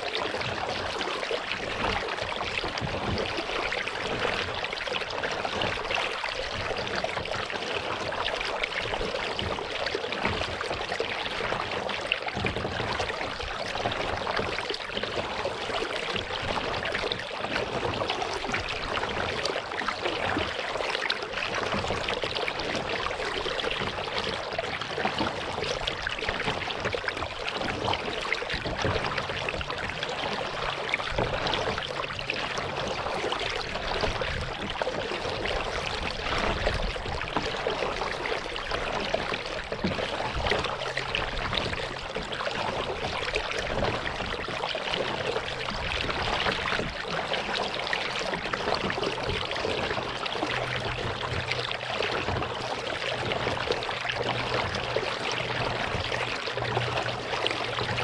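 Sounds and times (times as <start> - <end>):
water trickling around kayak: 0.0 - 58.0.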